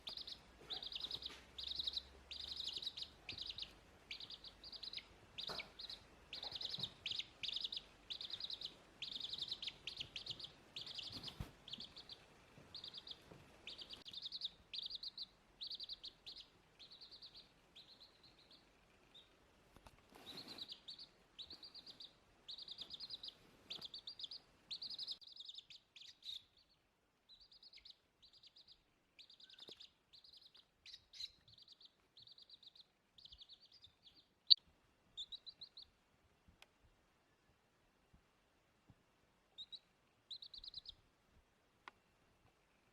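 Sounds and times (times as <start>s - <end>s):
small birds chirping: 0.0s - 38.2s, 38.8s - 42.9s.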